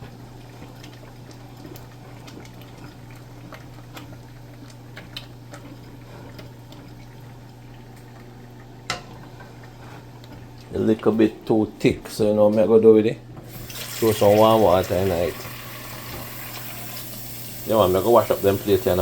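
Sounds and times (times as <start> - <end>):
porridge bubbling in a pot: 0.0 - 12.6, 13.4 - 19.0.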